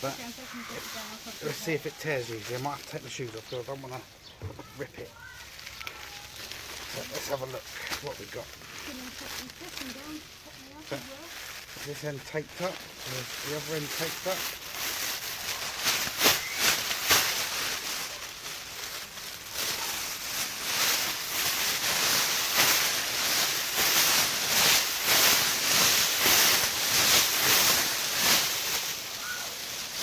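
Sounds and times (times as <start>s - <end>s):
foil sleeping bag crinkling: 0.0s - 30.0s.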